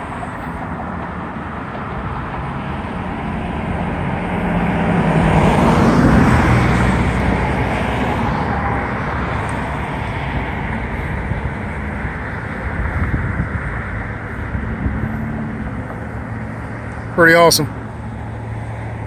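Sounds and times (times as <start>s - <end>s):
traffic hum: 0.0s - 19.0s
vehicle passing: 0.0s - 19.0s.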